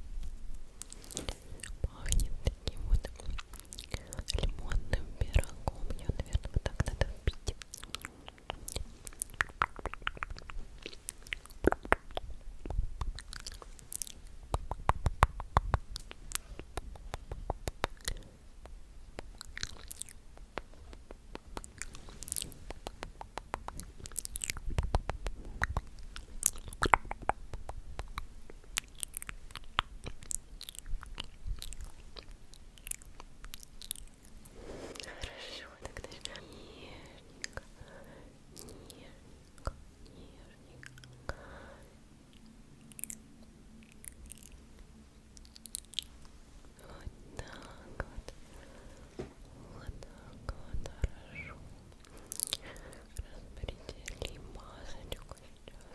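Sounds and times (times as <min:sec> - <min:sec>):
wet mouth clicks: 0:00.2 - 0:41.4, 0:42.3 - 0:49.1, 0:49.7 - 0:55.9.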